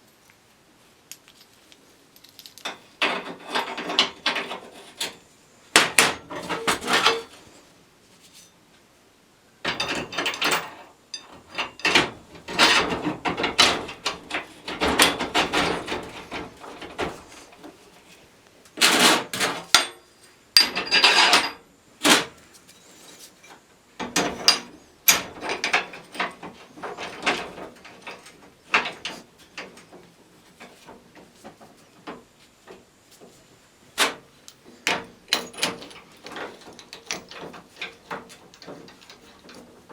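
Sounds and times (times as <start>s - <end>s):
hard parts clattering and rattling: 2.2s - 5.2s, 5.8s - 7.5s, 9.6s - 18.1s, 18.8s - 33.4s, 34.0s - 39.9s.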